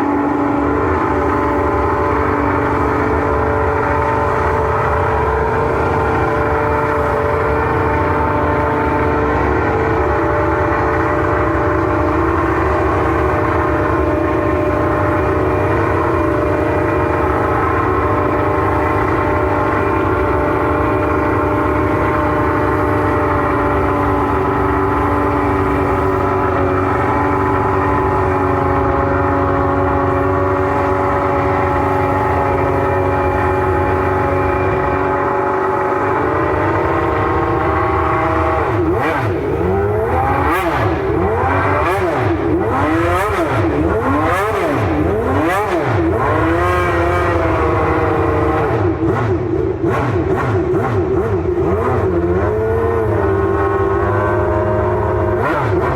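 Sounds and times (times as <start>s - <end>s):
racing car engine idling: 0.0s - 55.9s.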